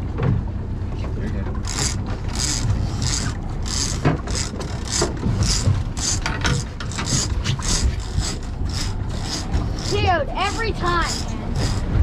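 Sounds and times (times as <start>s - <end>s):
steady low rumble: 0.0s - 12.0s
fishing reel grinding: 1.6s - 12.0s.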